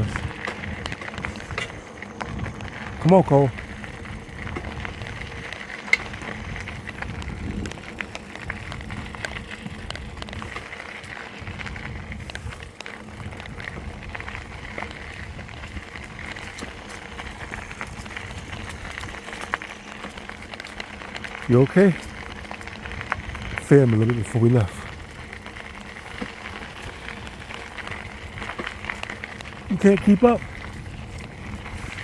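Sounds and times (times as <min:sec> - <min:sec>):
bicycle clicks and rattles: 0:00.0 - 0:32.0
bicycle tyres rumbling: 0:00.0 - 0:32.0.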